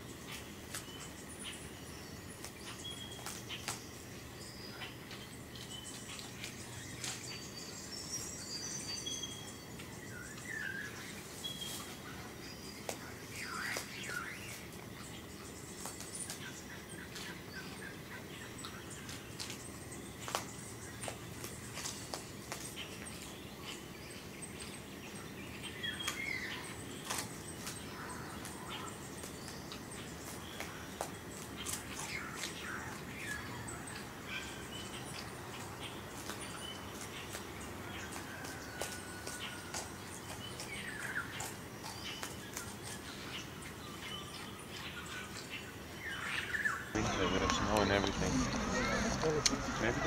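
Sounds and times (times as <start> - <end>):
birds chirping: 0.0 - 50.0
low steady background hum: 0.0 - 50.0.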